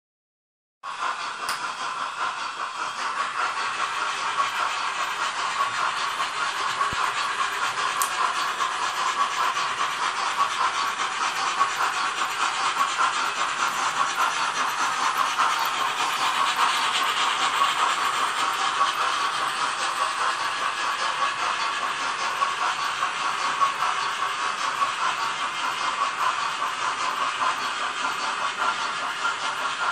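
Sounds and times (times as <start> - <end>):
model steam locomotive chuffing: 0.8 - 29.9.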